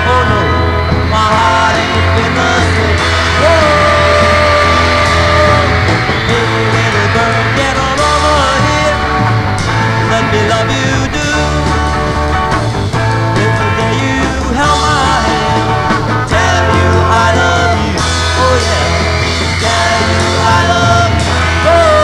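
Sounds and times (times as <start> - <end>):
several voices singing: 0.0 - 12.1, 13.4 - 22.0
live rock band playing: 0.0 - 22.0.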